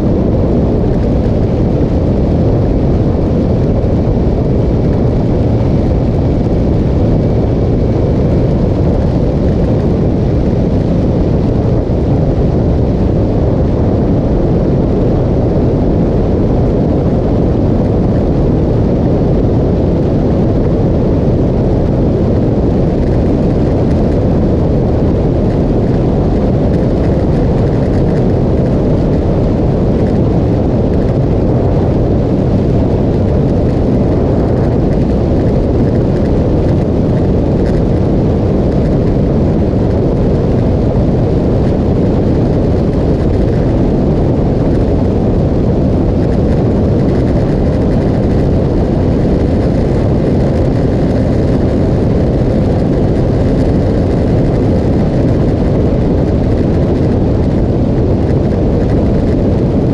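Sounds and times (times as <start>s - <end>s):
motorcycle riding: 0.0s - 59.6s
wind rumble on microphone: 0.0s - 59.9s.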